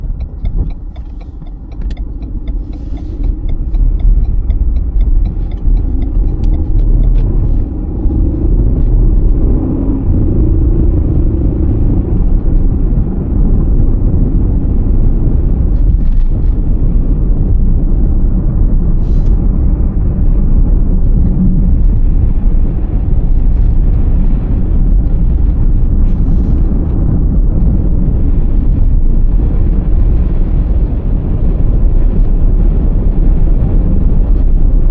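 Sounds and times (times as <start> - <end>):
car driving on snowy road: 0.0 - 34.9.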